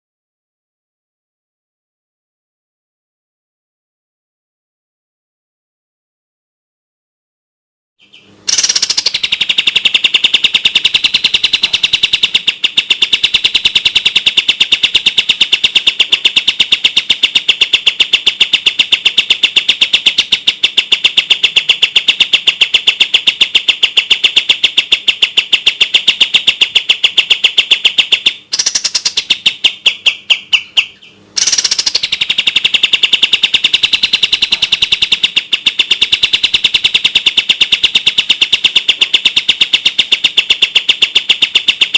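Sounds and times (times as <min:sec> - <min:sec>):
bird singing fast trill: 0:08.0 - 0:41.9.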